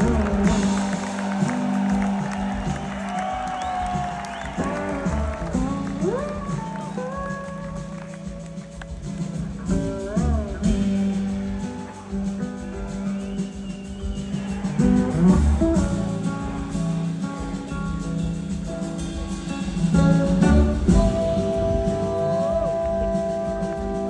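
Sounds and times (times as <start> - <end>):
blues-rock band playing: 0.0 - 24.0.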